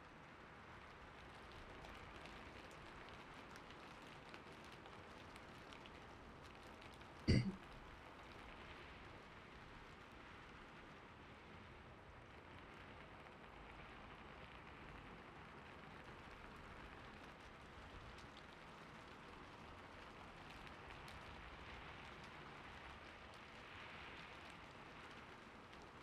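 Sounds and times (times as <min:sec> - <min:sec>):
gentle rain: 0:00.0 - 0:26.0.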